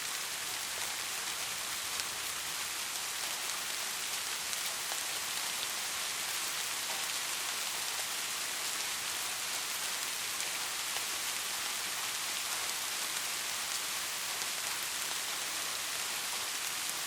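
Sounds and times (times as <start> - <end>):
soft rainfall: 0.0 - 17.0.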